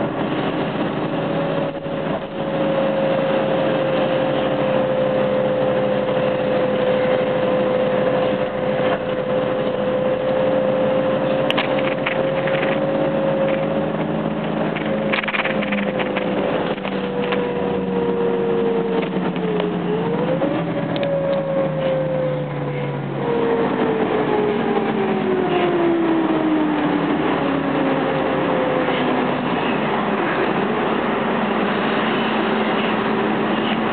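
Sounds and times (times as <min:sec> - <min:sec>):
bus engine and road noise: 0:00.0 - 0:33.9
engine whine: 0:00.0 - 0:33.9.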